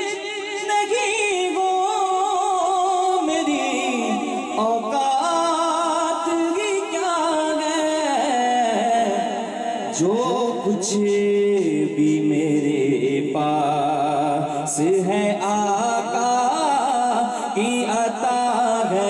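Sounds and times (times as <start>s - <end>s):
man singing a cappella: 0.0s - 19.0s.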